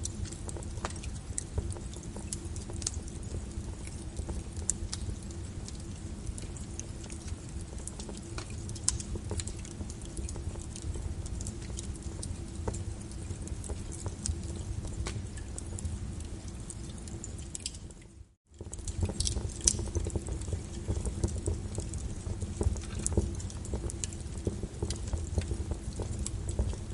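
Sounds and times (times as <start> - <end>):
fire crackling and popping: 0.0 - 26.9
low rumble of flames: 0.0 - 26.9.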